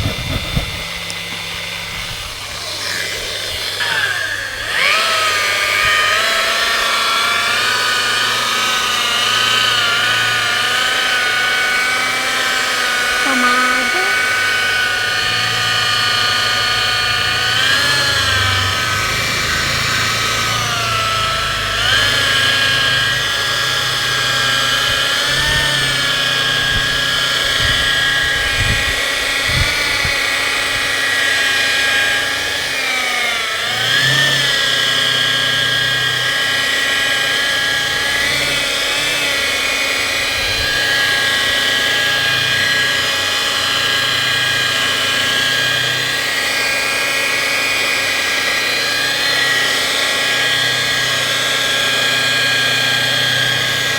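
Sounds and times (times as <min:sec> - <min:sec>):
electric polisher whining: 0:00.0 - 0:53.9.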